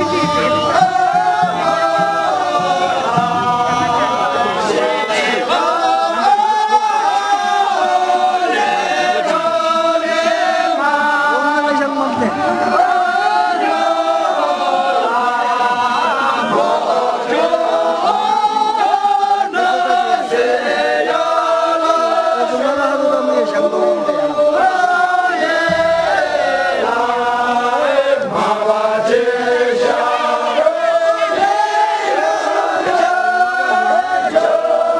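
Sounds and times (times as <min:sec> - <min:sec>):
group of people singing together: 0:00.0 - 0:34.9.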